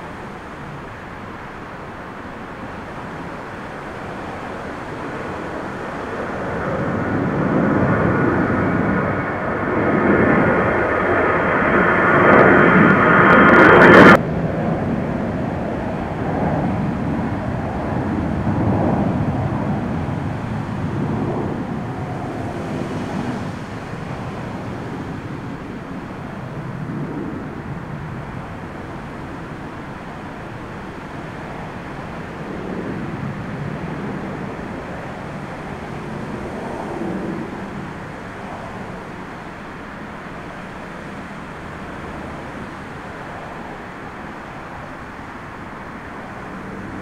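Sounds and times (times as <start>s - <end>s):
distant jet engines: 0.0s - 47.0s
gusty storm wind: 0.0s - 47.0s
jet airliner passing overhead: 0.0s - 47.0s.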